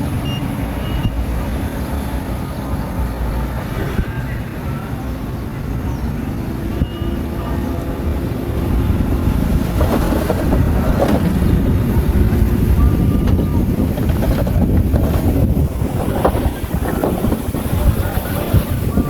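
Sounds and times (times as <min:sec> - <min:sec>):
bulldozer engine rumbling: 0:00.0 - 0:19.0.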